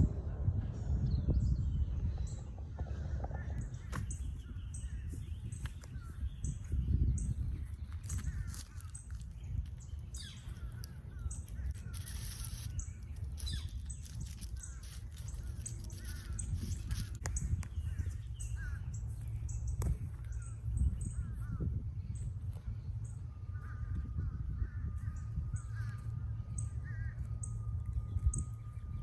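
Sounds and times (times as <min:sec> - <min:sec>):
birds chirping and calling: 0:00.0 - 0:29.0
low rumble: 0:00.0 - 0:29.0.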